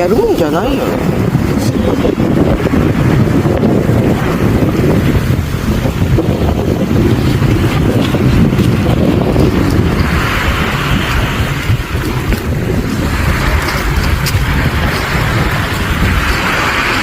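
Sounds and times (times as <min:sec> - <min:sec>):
waves washing in: 0:00.0 - 0:17.0
wind buffeting microphone: 0:00.0 - 0:17.0.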